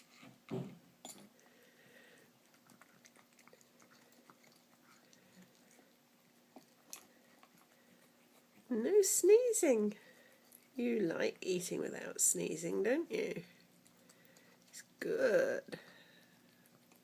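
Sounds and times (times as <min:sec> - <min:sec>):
cat chewing and licking food: 0:00.0 - 0:17.0
faint steady hum: 0:00.0 - 0:17.0.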